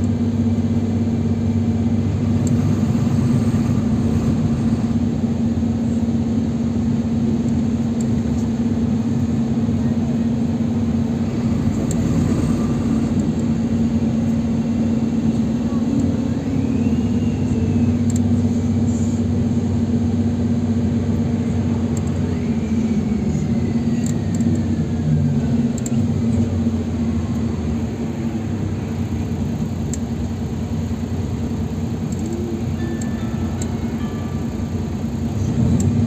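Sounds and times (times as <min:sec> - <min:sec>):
bus diesel engine droning: 0:00.0 - 0:36.0
faint whine: 0:00.0 - 0:36.0
road noise: 0:00.0 - 0:36.0.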